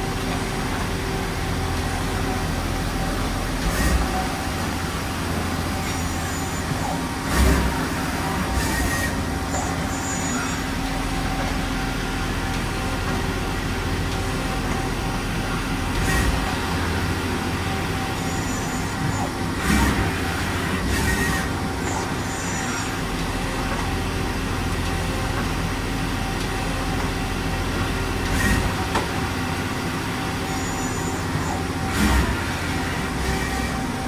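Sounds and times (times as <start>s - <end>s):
industrial machinery humming: 0.0s - 34.0s.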